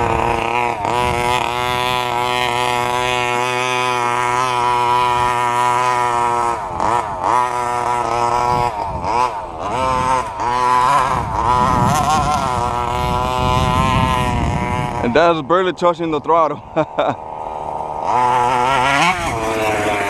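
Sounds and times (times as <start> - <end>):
rc truck engine revving: 0.0 - 20.0.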